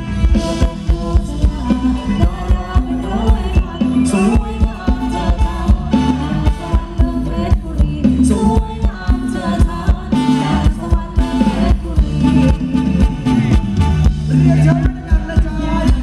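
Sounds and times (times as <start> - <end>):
live band dance music: 0.0 - 16.0
person singing: 0.0 - 16.0
drum beat: 0.2 - 16.0.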